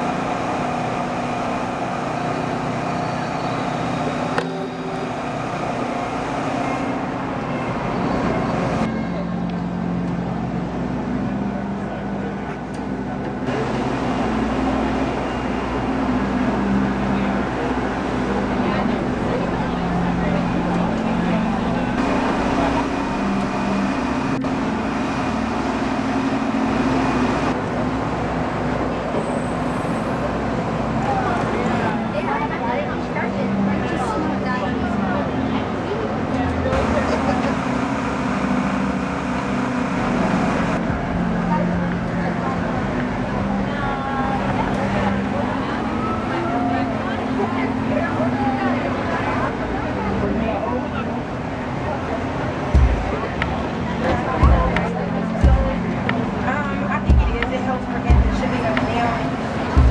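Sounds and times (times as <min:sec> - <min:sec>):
city traffic engine hum: 0:00.0 - 0:59.9.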